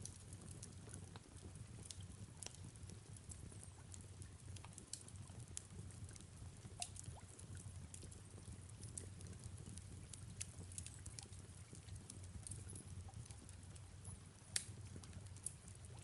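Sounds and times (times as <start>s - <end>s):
faint fireplace crackle: 0.0s - 16.0s
soft rain: 0.0s - 16.0s.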